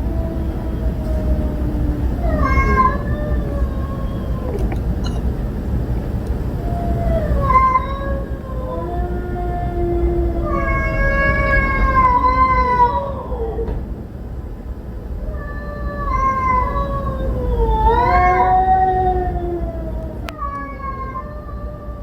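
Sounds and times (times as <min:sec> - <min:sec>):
cats yowling: 0:00.0 - 0:05.4, 0:06.5 - 0:13.8, 0:15.2 - 0:22.0
low steady rumble: 0:00.0 - 0:22.0.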